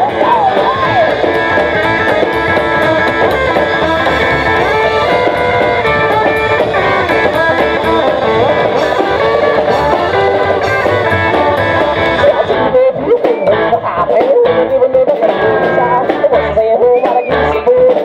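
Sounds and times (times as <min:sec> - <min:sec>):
upright double bass: 0:00.0 - 0:16.6
drums: 0:00.0 - 0:18.0
electric guitar: 0:00.0 - 0:18.0.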